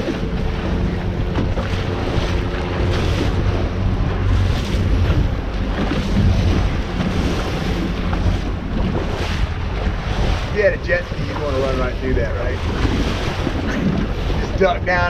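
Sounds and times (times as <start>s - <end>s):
boat motor humming: 0.0s - 15.0s
water rushing around hull: 0.0s - 15.0s
wind buffeting microphone: 0.0s - 15.0s.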